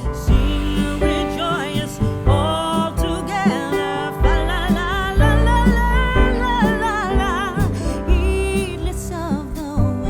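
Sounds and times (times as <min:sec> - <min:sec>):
guitar: 0:00.0 - 0:10.0
person singing: 0:00.0 - 0:10.0
pulsing bass: 0:00.0 - 0:10.0.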